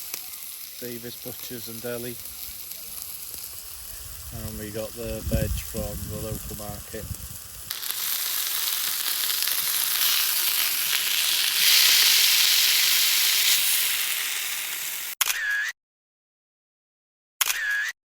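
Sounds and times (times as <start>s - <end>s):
food sizzling in a frying pan: 0.0s - 15.2s.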